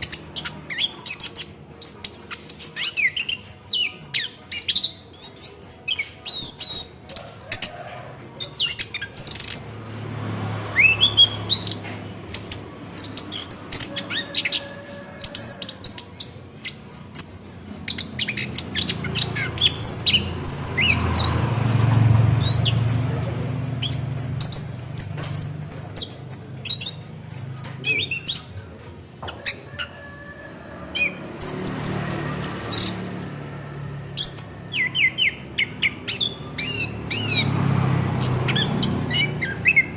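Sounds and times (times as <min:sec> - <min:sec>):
thrush singing: 0:00.0 - 0:39.9.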